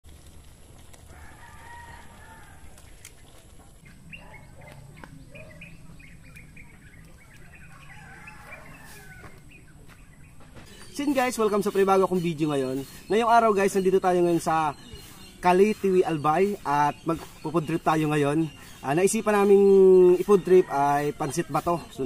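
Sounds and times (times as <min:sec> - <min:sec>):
faint bird calls and chirps: 0:01.2 - 0:22.0.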